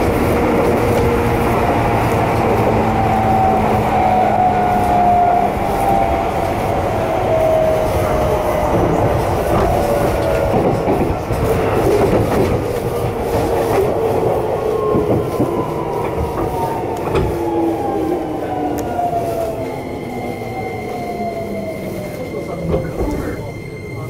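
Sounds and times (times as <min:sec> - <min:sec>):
train traction motors whining: 0:00.0 - 0:24.0
wheel and rail rumble: 0:00.0 - 0:24.0.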